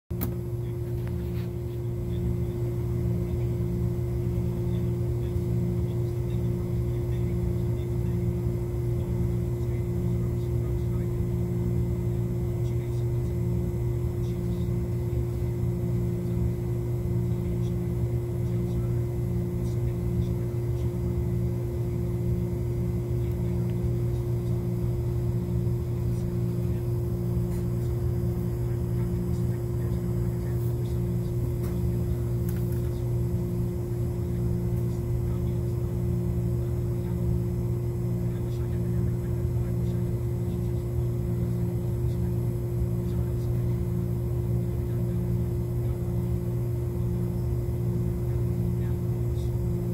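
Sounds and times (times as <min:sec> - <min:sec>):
low electrical hum: 0:00.1 - 0:49.9.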